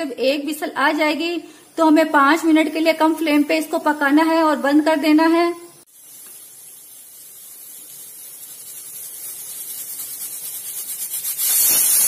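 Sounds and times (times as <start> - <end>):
pressure cooker hissing: 0.1 - 12.0.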